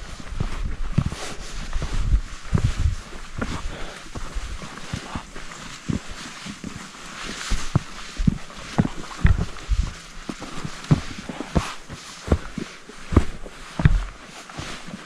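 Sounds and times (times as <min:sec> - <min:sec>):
footsteps on a trail: 0:00.0 - 0:15.0.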